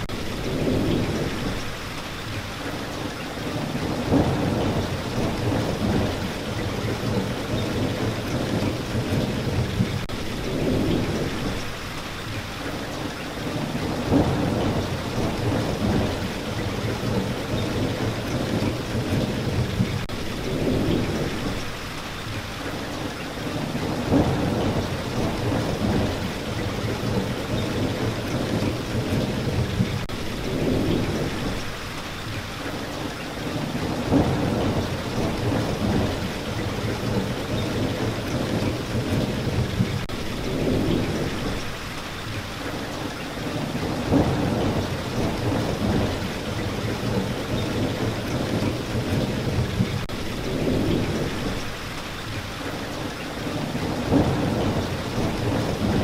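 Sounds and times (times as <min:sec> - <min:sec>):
thunder rumbles: 0:00.0 - 0:01.8, 0:03.4 - 0:11.8, 0:13.4 - 0:21.8, 0:23.4 - 0:32.3, 0:33.4 - 0:42.3, 0:43.4 - 0:51.9, 0:53.4 - 0:56.0
steady rain falling: 0:00.0 - 0:56.0.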